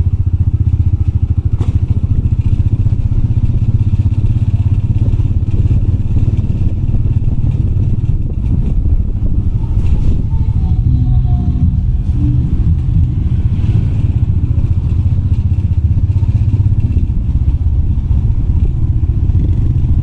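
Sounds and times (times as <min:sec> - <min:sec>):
bike rattling on rough trail: 0:00.0 - 0:10.7, 0:12.7 - 0:20.0
motorbike engine running: 0:00.0 - 0:20.0.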